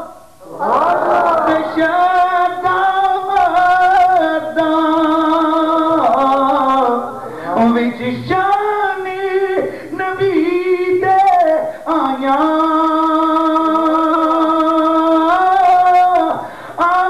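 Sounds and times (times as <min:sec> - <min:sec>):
man chanting into a microphone: 0:01.0 - 0:17.0.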